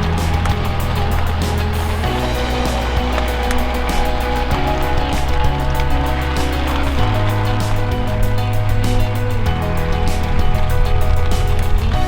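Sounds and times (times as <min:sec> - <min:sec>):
background music with bass beat: 0:00.0 - 0:12.0.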